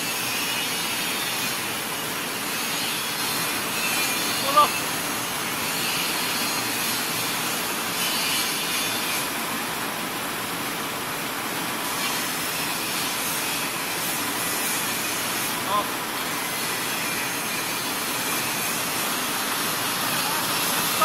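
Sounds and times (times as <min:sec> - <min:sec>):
hulling machine whirring: 0:00.0 - 0:09.4, 0:11.4 - 0:21.0.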